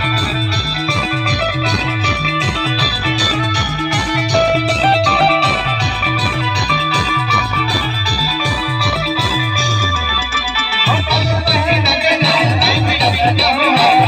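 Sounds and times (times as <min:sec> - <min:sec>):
fast bass drum beat: 0:00.0 - 0:10.1, 0:10.9 - 0:14.0
plucked string melody: 0:00.0 - 0:11.3.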